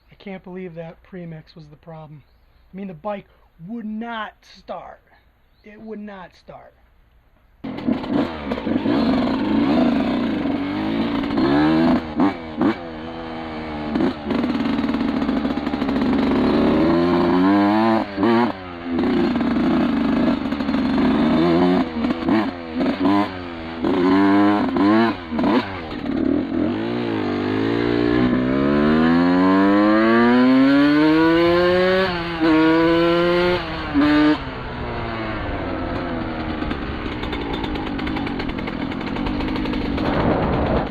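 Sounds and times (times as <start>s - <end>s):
two-stroke motorcycle engine revving: 7.6s - 40.9s.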